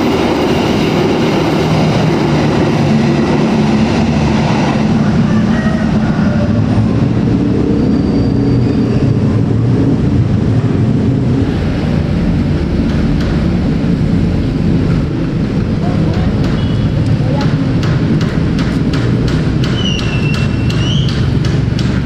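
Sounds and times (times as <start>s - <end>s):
passing vehicles rumbling: 0.0s - 22.0s.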